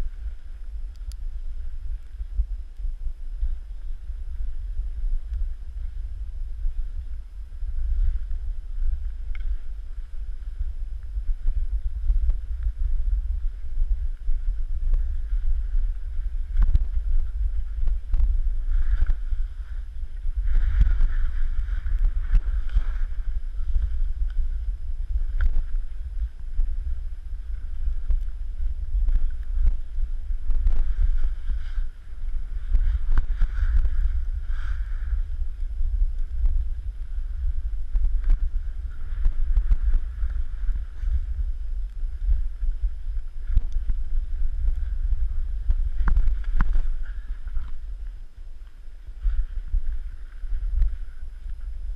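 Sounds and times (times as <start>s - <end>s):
snowblades swishing through snow: 0.0s - 51.9s
wind rumble on microphone: 0.0s - 51.9s.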